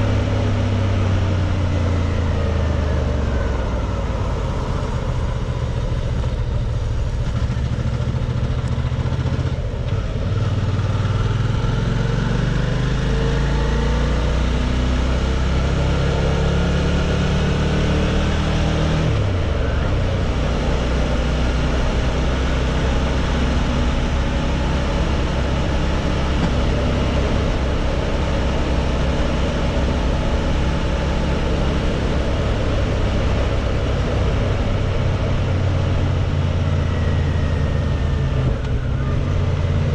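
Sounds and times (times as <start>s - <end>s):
motorcycle engine accelerating: 0.0s - 39.9s
road noise: 0.0s - 39.9s.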